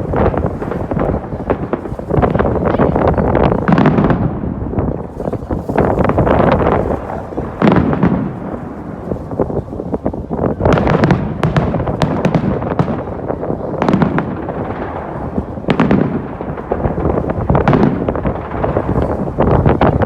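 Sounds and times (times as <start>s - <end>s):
fireworks bangs and crackles: 0.0s - 20.0s
wind buffeting microphone: 0.0s - 20.0s.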